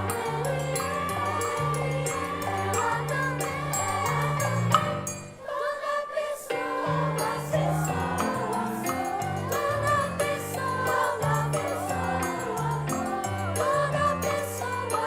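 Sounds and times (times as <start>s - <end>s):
piano accompaniment: 0.0s - 5.5s, 6.6s - 15.0s
choir singing: 0.0s - 15.0s.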